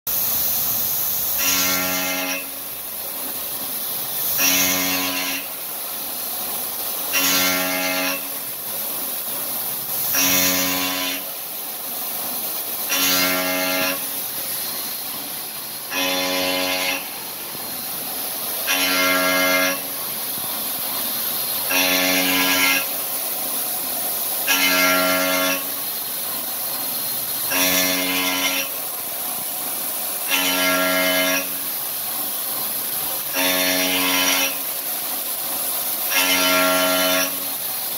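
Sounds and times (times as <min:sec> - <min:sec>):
constant high hiss: 0:00.1 - 0:37.9.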